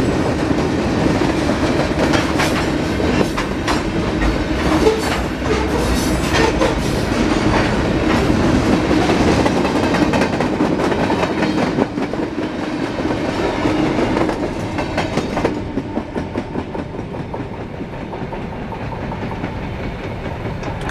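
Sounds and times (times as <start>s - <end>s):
train wheels clicking over rail joints: 0.4s - 20.9s.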